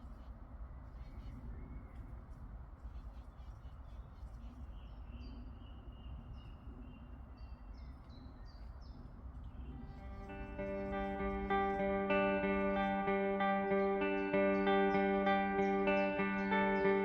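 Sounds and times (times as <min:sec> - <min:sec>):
bird chirping: 0:03.0 - 0:17.0.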